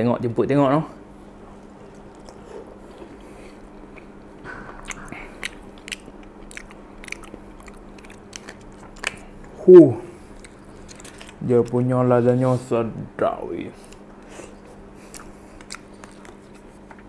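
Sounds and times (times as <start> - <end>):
faint steady hum: 0.0 - 17.0
person chewing: 1.3 - 11.8, 13.8 - 17.0.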